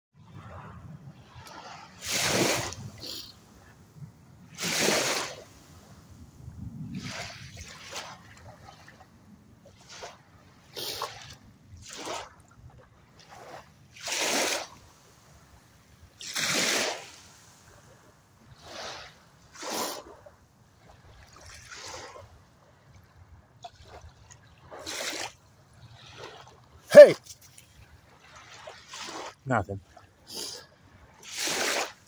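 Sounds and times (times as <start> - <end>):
small waves lapping over pebbles: 1.2 - 32.0.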